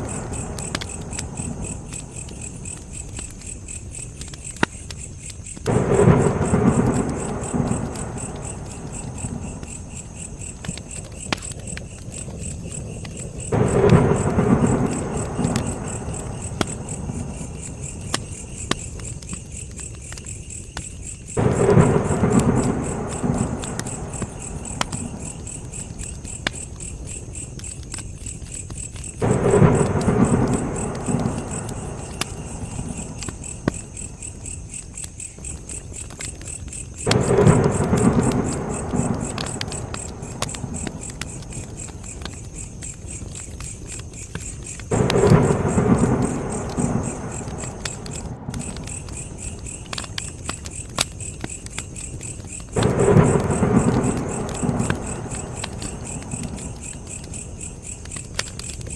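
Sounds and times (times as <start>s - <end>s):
campfire crackling: 0.0s - 58.9s
crickets chirping: 0.0s - 58.9s.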